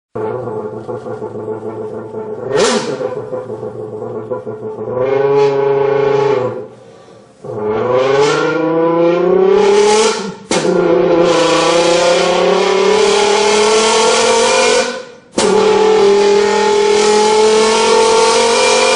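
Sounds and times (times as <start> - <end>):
buzzing blown can engine imitation: 0.2 - 6.8, 7.4 - 18.9.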